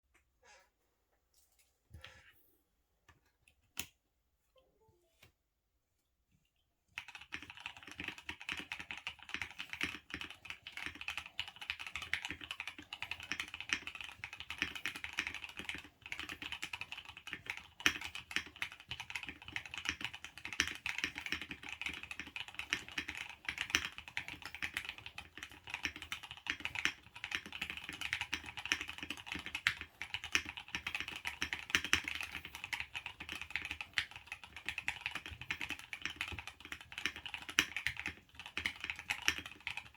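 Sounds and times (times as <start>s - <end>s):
fast typing on mechanical keyboard: 7.0s - 39.9s.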